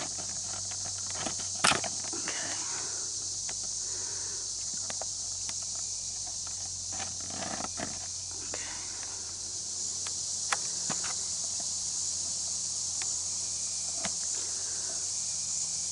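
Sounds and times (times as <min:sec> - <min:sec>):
steady high hiss: 0:00.0 - 0:15.9.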